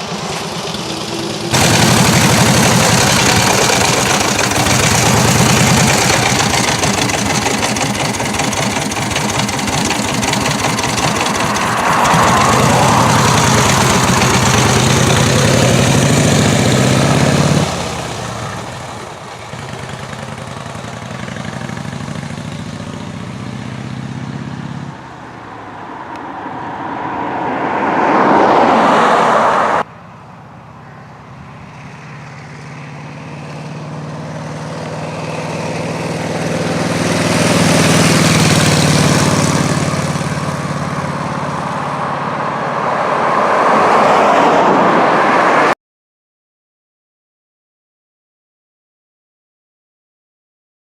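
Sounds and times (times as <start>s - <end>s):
motorcycle engine passing by: 0.0s - 25.1s, 26.4s - 44.1s.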